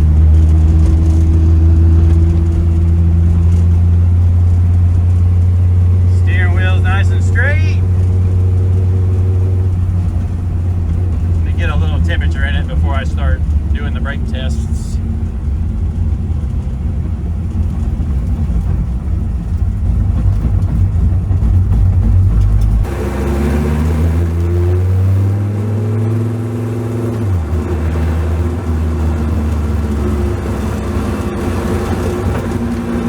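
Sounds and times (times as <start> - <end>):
race car engine from cabin: 0.0 - 33.0.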